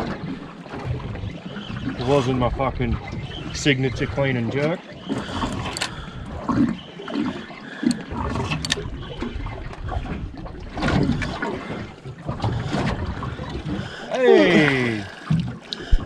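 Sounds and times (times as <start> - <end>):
water sloshing against hull: 0.0 - 16.0.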